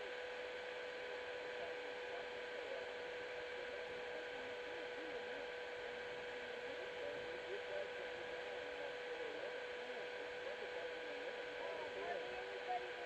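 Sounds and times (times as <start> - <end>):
constant high hum: 0.0 - 13.0
faint wavering voices: 1.0 - 13.0.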